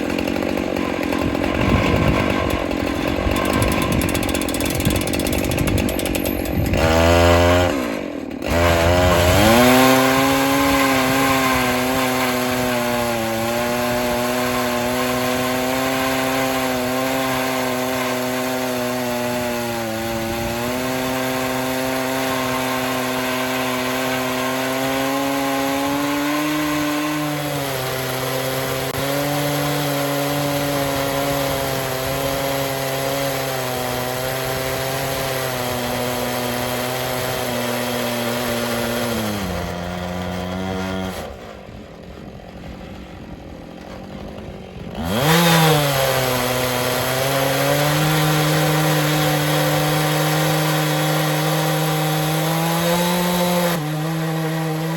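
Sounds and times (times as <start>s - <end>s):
chainsaw cutting log: 0.0s - 54.9s.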